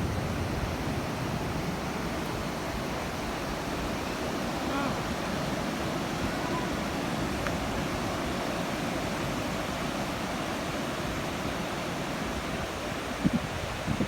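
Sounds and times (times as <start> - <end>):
ocean waves washing ashore: 0.0 - 14.0.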